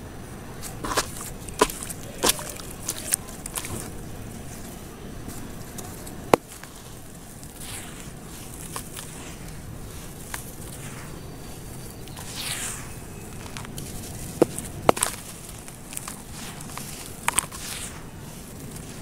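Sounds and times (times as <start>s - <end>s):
charcoal crumbled by hand: 0.5s - 19.0s
grit sifting with small clicks: 0.6s - 19.0s
rush of falling grit: 0.6s - 19.0s.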